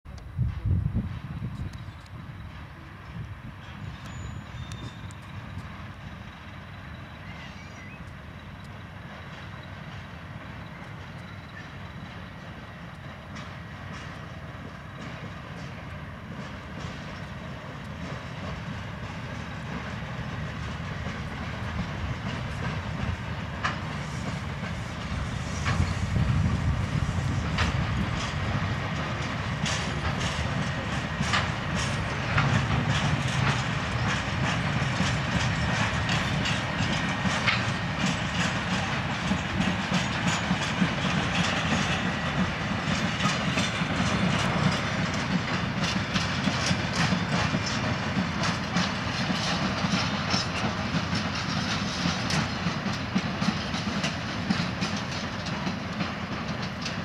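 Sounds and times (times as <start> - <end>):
locomotive engine rumble: 0.1 - 57.0
wagon wheels clacking over rail joints: 8.0 - 57.0.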